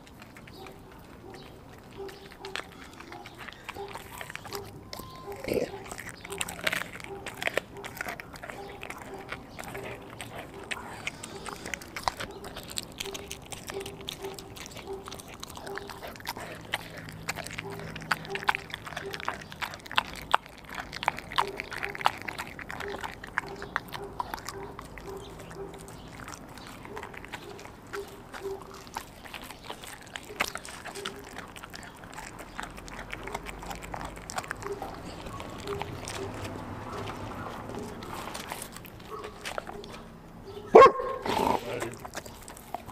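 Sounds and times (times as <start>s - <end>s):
dog chewing bone: 0.0s - 42.9s.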